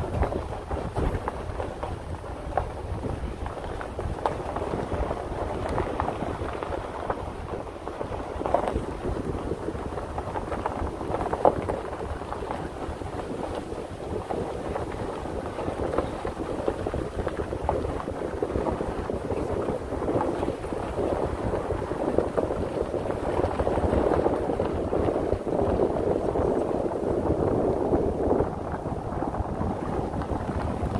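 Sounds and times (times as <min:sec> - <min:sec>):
tyres rolling on gravel: 0:00.0 - 0:30.9
wind on microphone: 0:00.0 - 0:30.9.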